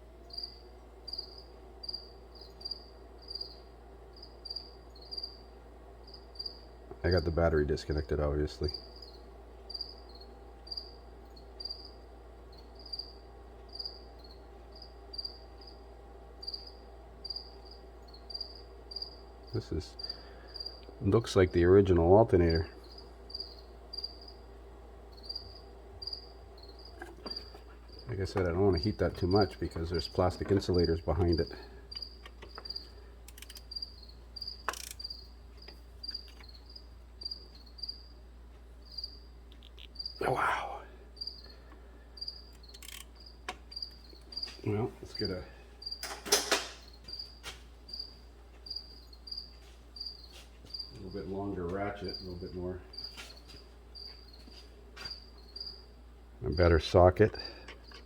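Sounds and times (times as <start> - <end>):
low steady hum: 0.0 - 58.0
cricket chirping: 0.2 - 7.3, 8.7 - 20.9, 22.8 - 24.5, 25.1 - 28.2, 28.8 - 56.1.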